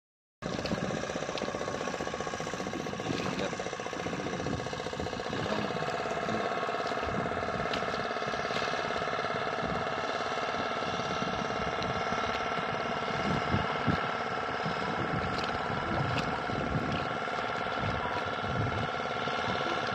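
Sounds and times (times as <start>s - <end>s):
boat motor droning: 0.4s - 19.9s.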